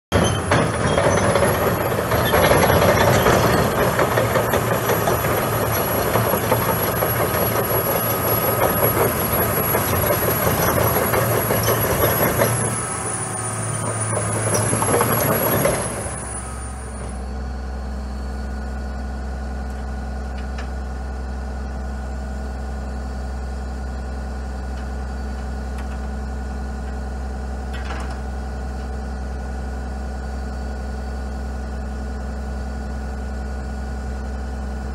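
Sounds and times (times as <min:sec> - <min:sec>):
diesel engine running loudly: 0:00.1 - 0:34.9
diesel engine idling: 0:00.4 - 0:34.9.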